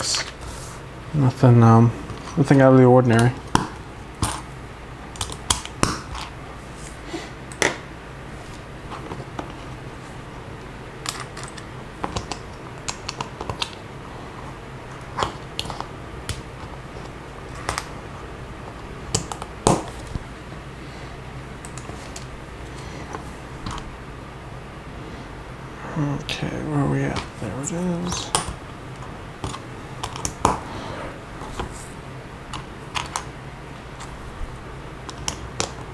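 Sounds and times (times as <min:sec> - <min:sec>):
low steady hum: 0:00.0 - 0:35.9.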